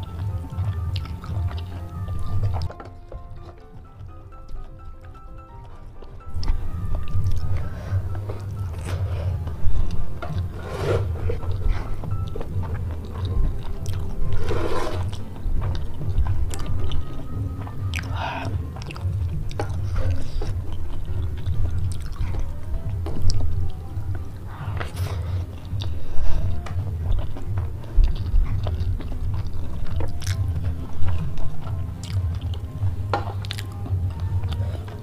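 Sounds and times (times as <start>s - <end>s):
background music: 0.0s - 35.0s
wet chewing and mouth sounds: 0.0s - 35.0s
steady low rumble: 6.2s - 35.0s.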